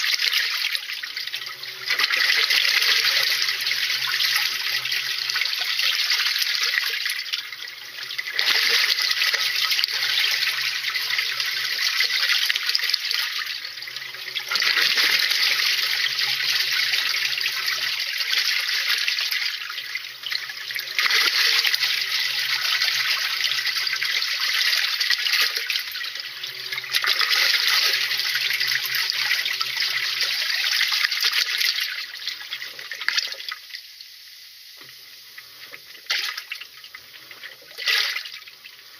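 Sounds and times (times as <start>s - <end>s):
water sloshing in washing machine: 0.0s - 33.5s, 35.7s - 38.5s.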